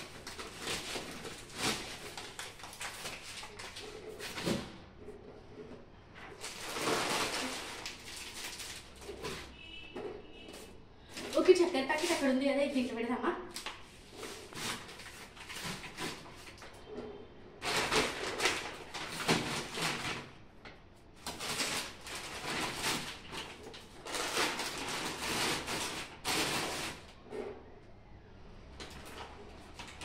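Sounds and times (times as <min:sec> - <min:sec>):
plastic bags rustling and crinkling: 0:00.0 - 0:09.7, 0:10.3 - 0:12.9, 0:13.6 - 0:16.8, 0:17.6 - 0:20.6, 0:21.2 - 0:27.2.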